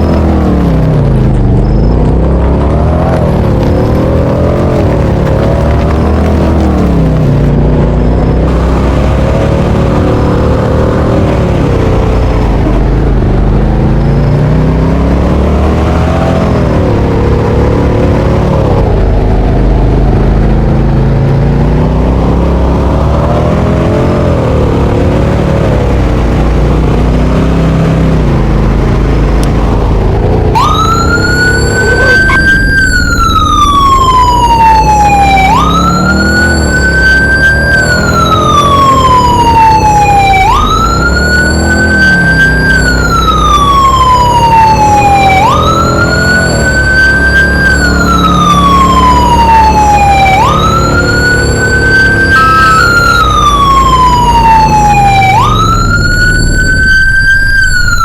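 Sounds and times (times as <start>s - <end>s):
heavy engine rumble: 0.0s - 58.0s
siren rising and falling: 0.0s - 58.0s
electronic siren wail: 1.6s - 7.4s, 8.2s - 20.2s, 28.9s - 58.0s.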